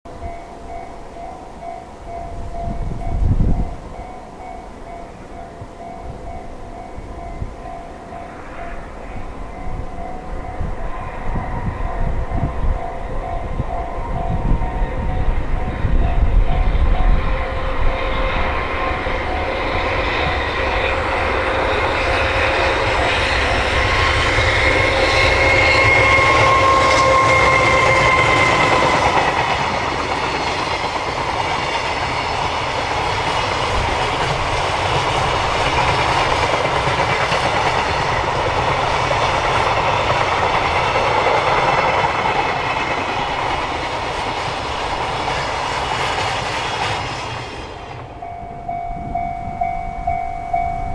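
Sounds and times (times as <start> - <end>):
freight train wheels clattering: 0.1 - 50.9
steady whine: 0.1 - 50.9.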